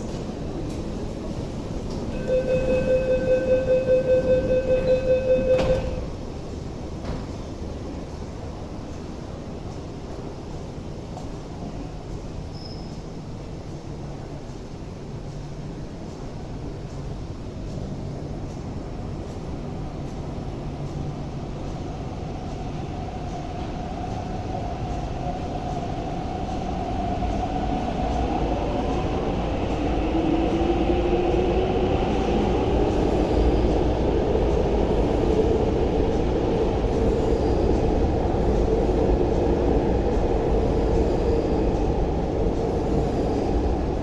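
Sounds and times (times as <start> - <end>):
rumble of passing train cars: 0.0 - 44.0.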